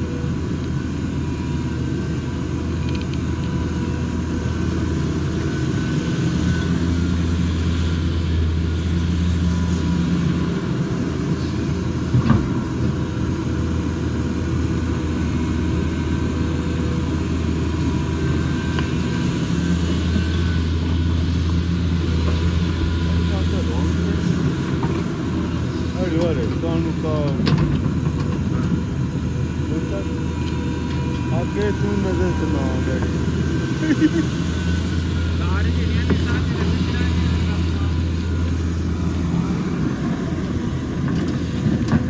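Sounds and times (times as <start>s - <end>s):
excavator diesel engine droning: 0.0s - 42.0s.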